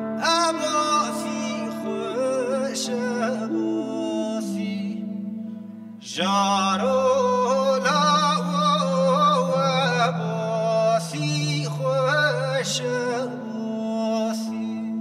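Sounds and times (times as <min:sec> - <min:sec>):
acoustic guitar accompaniment: 0:00.0 - 0:15.0
clarinet folk melody: 0:00.0 - 0:15.0.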